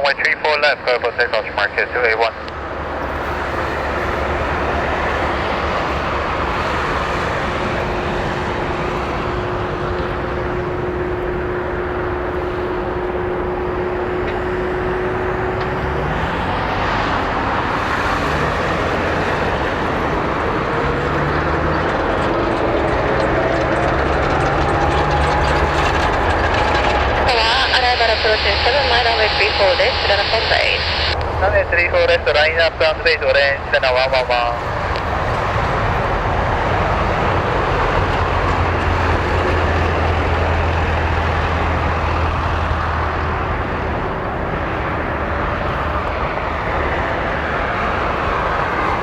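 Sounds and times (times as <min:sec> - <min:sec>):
jet airliner engines roaring: 0:00.0 - 0:49.0
rising jet whine: 0:00.0 - 0:49.0.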